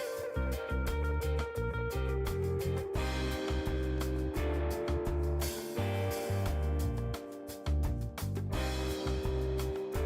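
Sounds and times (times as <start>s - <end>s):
music with pulsing bass: 0.0s - 10.0s.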